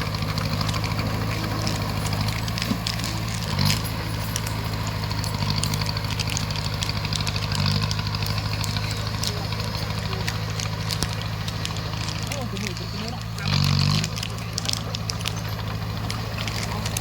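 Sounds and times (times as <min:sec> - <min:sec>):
bulldozer diesel engine running: 0:00.0 - 0:17.0
light clicks and clanks: 0:00.2 - 0:17.0.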